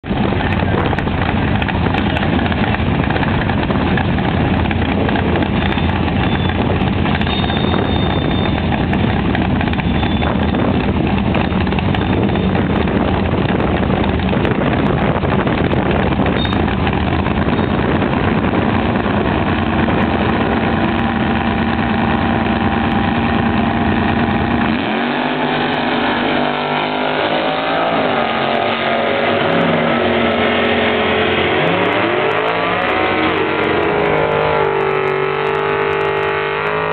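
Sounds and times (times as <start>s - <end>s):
car engine running loud: 0.0s - 36.9s.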